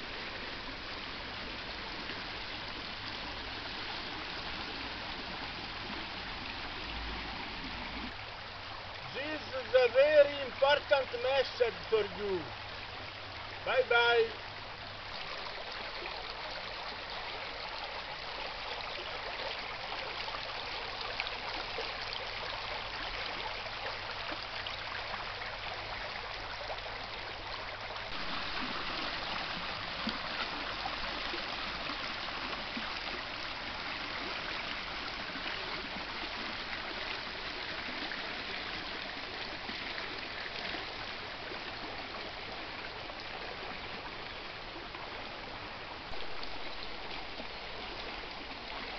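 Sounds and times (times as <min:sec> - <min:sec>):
stream running over stones: 0:00.0 - 0:48.9.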